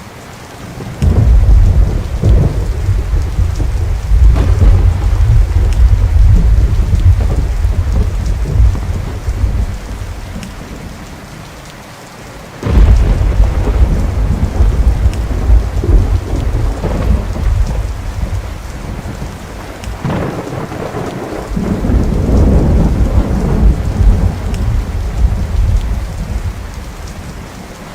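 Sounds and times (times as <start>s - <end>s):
steady rain: 0.0s - 27.9s
thunder rumbling: 0.7s - 11.1s, 12.6s - 27.7s.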